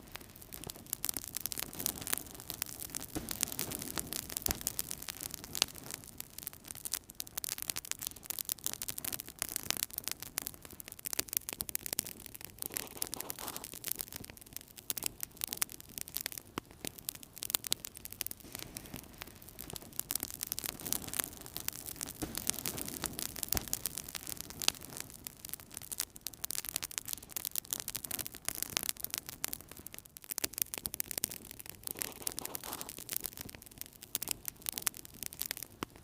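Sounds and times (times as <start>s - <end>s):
fire crackling and popping: 0.0s - 36.0s
soft steady rush of fire: 0.0s - 36.0s.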